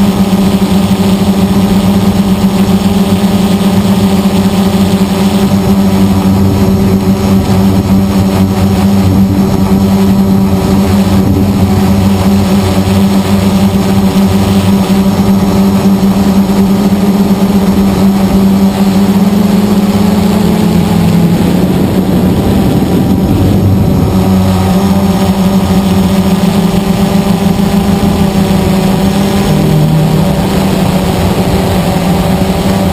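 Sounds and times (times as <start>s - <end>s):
quadcopter motors buzzing: 0.0s - 32.9s.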